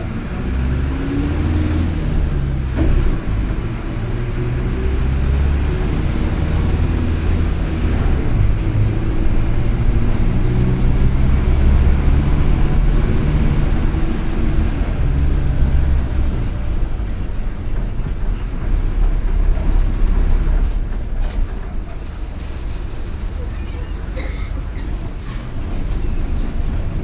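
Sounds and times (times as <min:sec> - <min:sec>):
bus diesel engine under load: 0:00.0 - 0:27.0.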